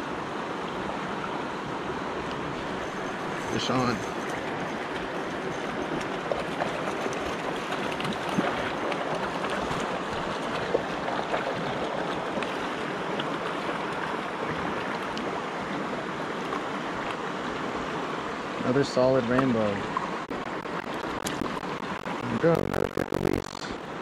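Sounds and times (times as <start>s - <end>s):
river water rushing: 0.0s - 18.7s, 19.8s - 22.9s.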